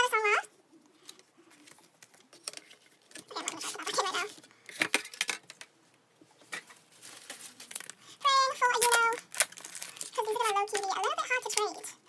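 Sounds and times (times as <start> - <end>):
plastic and cardboard rustling: 0.9 - 11.9.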